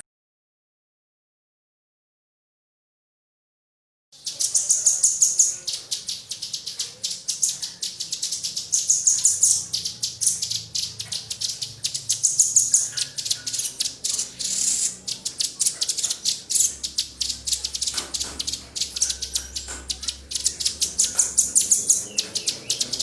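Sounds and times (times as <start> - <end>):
bird chip notes: 4.2 - 23.0.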